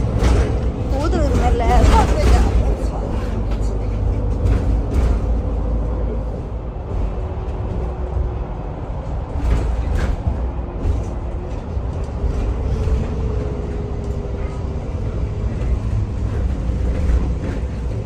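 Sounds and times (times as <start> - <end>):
vehicle engine low rumble: 0.0 - 18.0.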